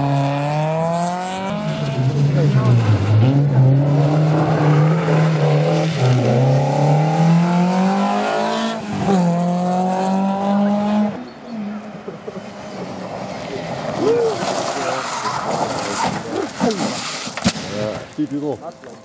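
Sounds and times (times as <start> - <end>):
rally car engine accelerating: 0.0 - 17.3.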